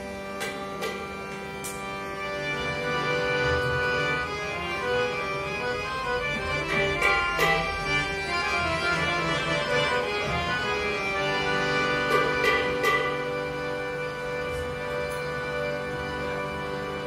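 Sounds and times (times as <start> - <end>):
harmonium playing: 0.0 - 17.0.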